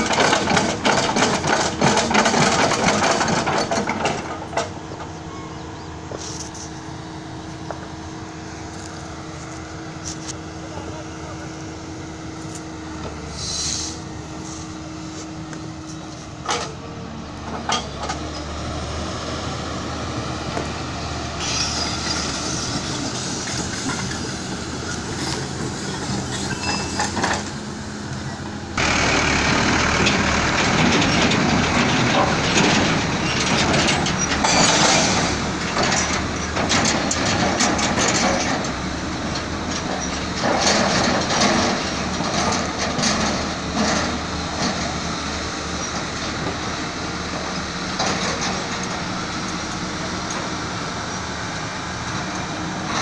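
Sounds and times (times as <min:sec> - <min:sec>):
diesel engines running: 0:00.0 - 0:53.0.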